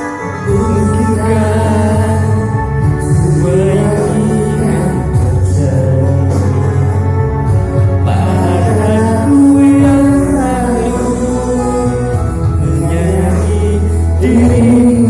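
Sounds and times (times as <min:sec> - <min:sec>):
song with melody over bass: 0:00.0 - 0:15.0.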